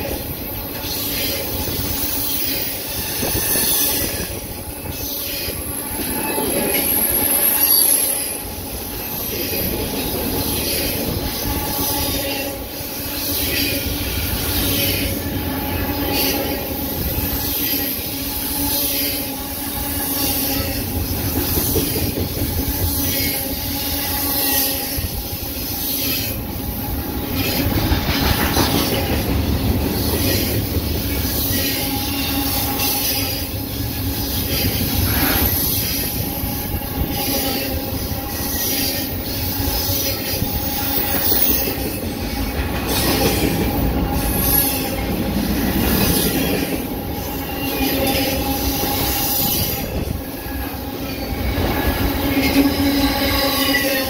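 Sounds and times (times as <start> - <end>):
rumble and clatter of train wheels: 0.0 - 54.0
train wheels squealing on rail: 0.0 - 54.0.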